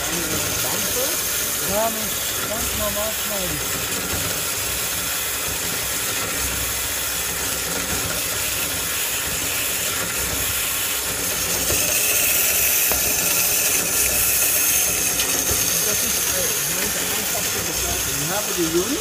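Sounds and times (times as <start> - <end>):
band saw cutting steel: 0.0 - 19.0.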